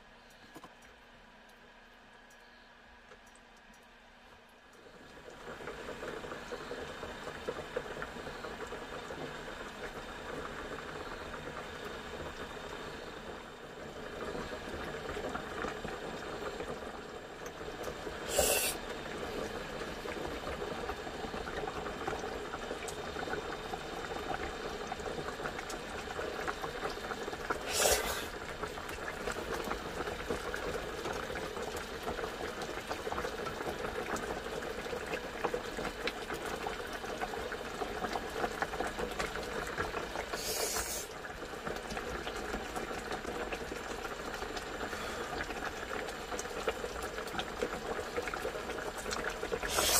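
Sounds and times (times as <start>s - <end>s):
soup bubbling in pot: 4.6s - 49.9s.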